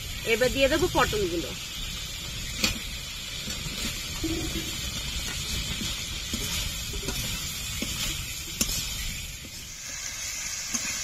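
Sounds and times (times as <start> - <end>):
food sizzling in a metal pan: 0.0 - 11.0.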